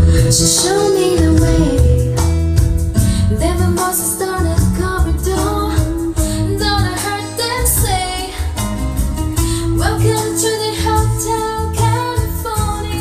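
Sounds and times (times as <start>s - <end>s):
woman singing: 0.0s - 2.3s, 3.0s - 8.6s, 9.4s - 13.0s
bass line: 0.0s - 13.0s
guitar: 0.0s - 13.0s.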